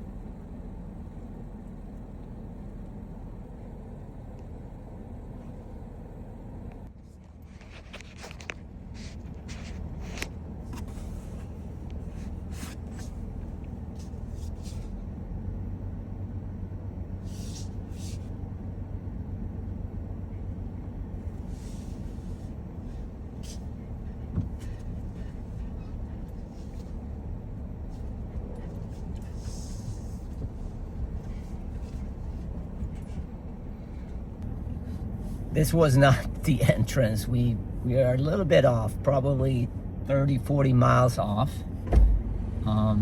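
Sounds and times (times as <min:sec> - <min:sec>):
vehicle rumble on dirt road: 0:00.0 - 0:43.0.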